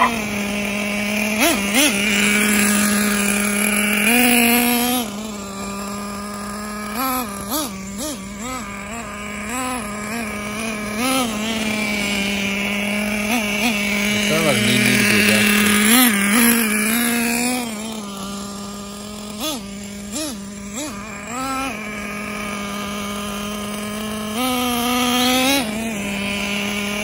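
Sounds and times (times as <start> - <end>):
model truck engine revving: 0.0 - 27.0.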